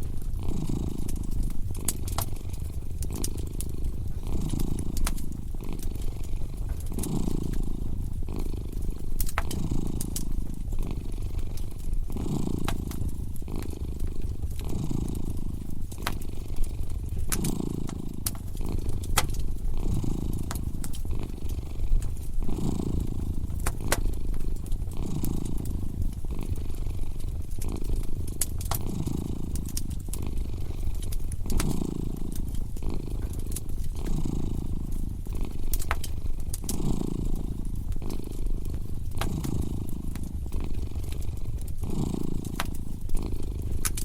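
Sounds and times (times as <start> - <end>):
cat purring: 0.0 - 44.0
wood fire crackling: 0.0 - 44.0.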